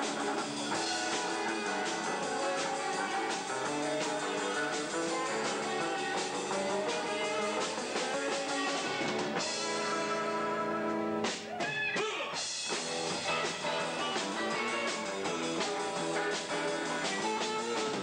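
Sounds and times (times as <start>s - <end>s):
live rock band playing: 0.0s - 18.0s
sliding guitar notes: 0.0s - 18.0s.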